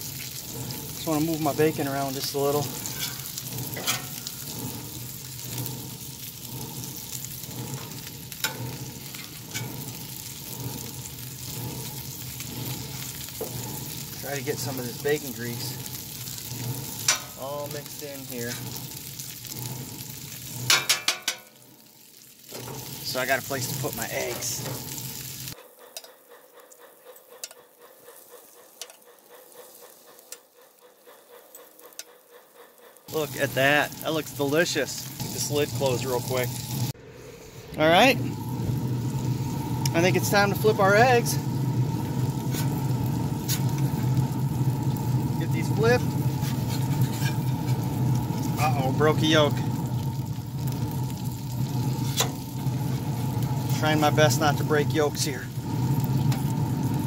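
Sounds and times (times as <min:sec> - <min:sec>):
bacon sizzling on a griddle: 0:00.0 - 0:25.6, 0:27.3 - 0:30.5, 0:33.0 - 0:37.0, 0:37.8 - 0:57.0.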